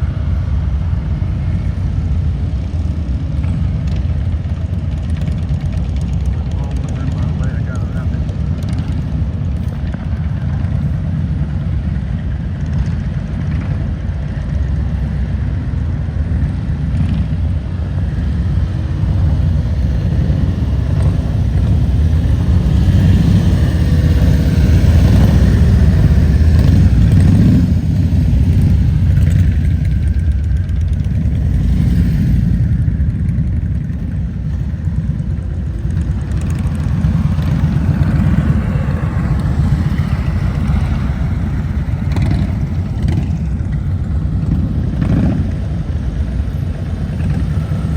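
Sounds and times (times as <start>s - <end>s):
motorcycle engines rumbling: 0.0s - 47.9s.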